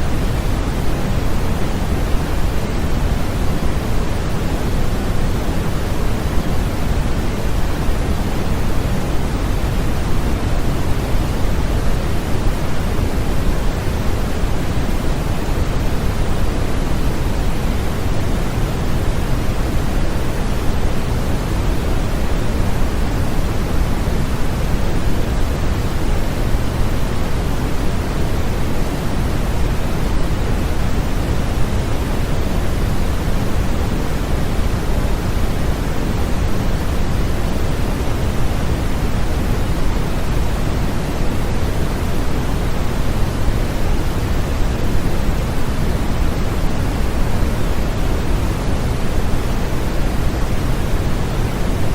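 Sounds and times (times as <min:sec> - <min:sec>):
white noise hiss: 0:00.0 - 0:51.9.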